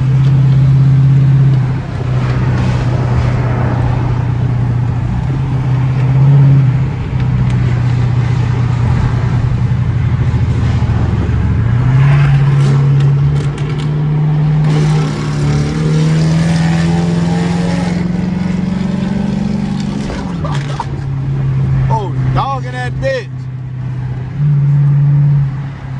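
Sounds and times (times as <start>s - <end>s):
car exhaust accelerating: 0.0s - 25.9s.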